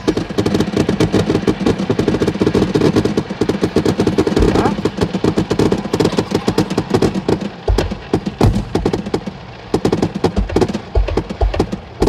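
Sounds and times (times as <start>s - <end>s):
deep firework boom: 0.0s - 12.0s
fireworks crackling: 0.0s - 12.0s.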